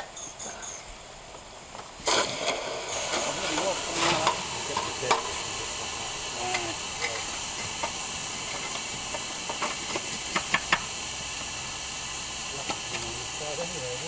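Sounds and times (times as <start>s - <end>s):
fire iron clinking and scraping: 0.0s - 11.8s
steam hissing: 0.0s - 14.0s.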